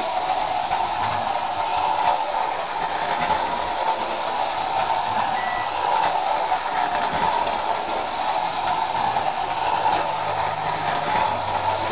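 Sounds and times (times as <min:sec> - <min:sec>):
toy train motor whirring: 0:00.0 - 0:11.9.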